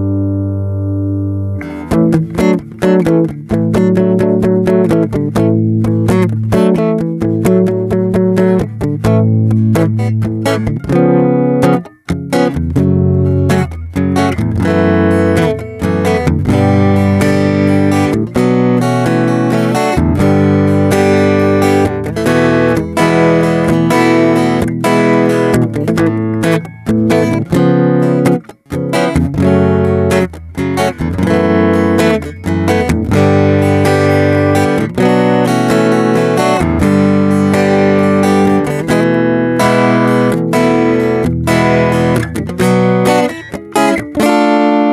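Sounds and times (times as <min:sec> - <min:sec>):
acoustic guitar strummed and picked: 0:00.0 - 0:44.9.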